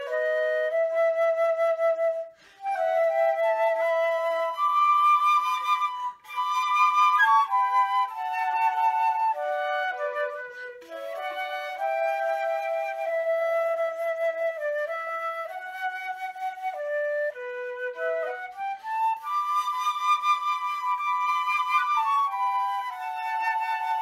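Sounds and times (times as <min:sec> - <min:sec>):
flutes playing in harmony: 0:00.0 - 0:24.0.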